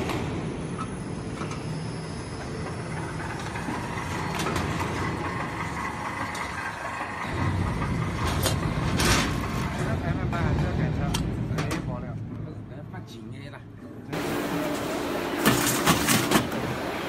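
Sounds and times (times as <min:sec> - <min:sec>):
bending machine humming: 0:00.0 - 0:12.0, 0:14.1 - 0:17.0.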